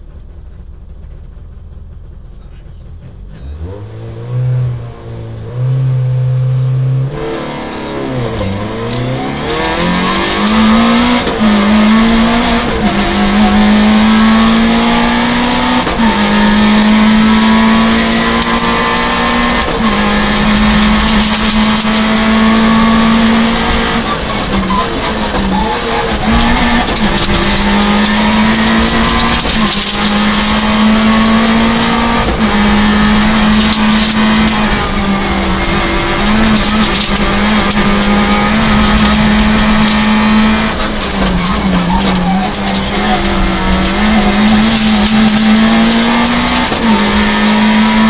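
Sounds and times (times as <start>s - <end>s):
rattle and clatter inside car: 0.0s - 4.2s, 7.1s - 48.0s
rally car engine revving: 0.0s - 48.0s.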